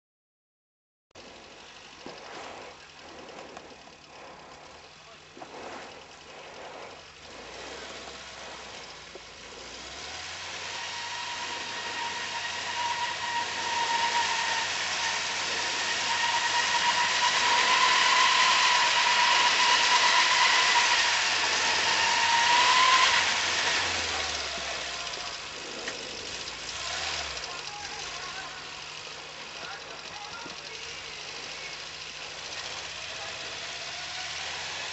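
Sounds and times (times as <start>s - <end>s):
high whine: 1.2s - 33.9s
truck engine climbing through snow: 1.2s - 34.9s.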